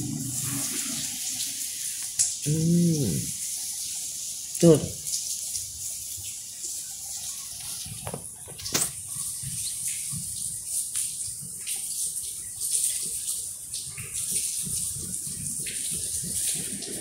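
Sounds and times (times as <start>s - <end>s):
running water splashing: 0.0s - 17.0s.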